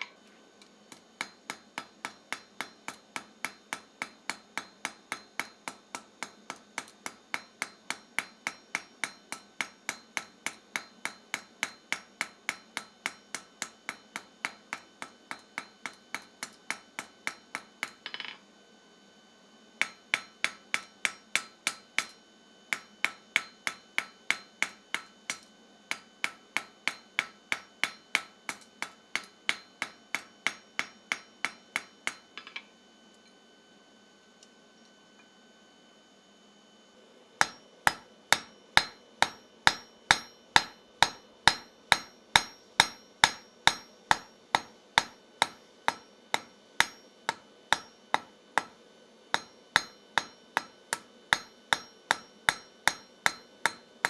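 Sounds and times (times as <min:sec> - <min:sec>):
hammer on anvil: 0:00.9 - 0:18.4, 0:19.8 - 0:32.6, 0:37.4 - 0:54.0.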